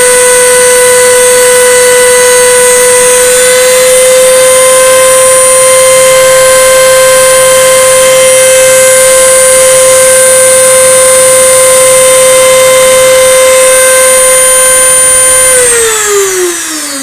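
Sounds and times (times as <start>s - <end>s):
router spindle whining: 0.0s - 17.0s.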